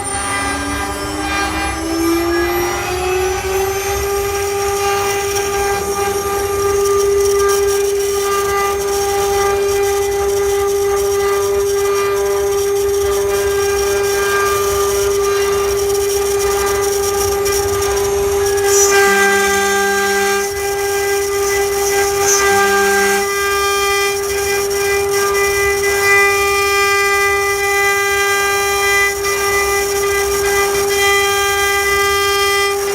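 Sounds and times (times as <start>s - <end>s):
machine motor whining: 0.0s - 32.9s.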